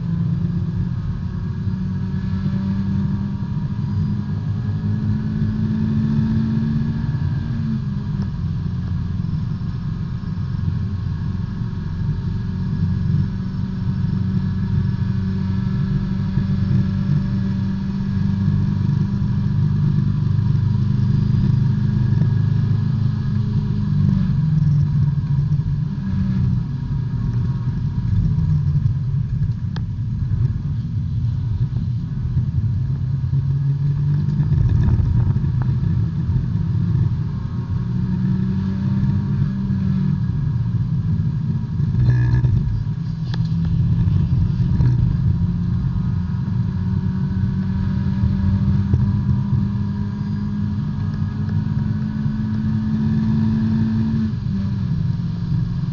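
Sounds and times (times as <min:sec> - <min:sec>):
race car engine running hard: 0:00.0 - 0:55.9.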